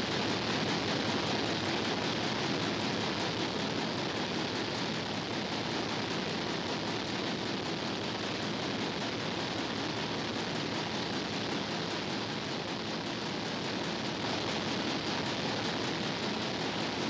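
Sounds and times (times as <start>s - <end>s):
engine room machinery hiss and rumble: 0.0s - 17.0s.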